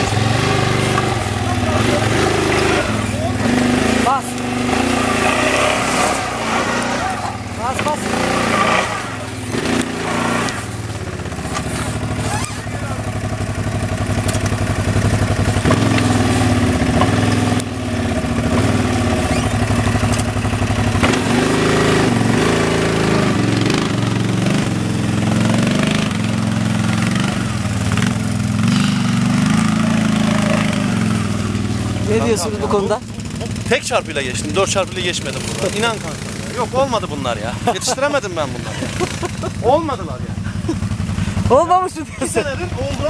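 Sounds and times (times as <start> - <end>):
quad bike engine revving: 0.0 - 43.0.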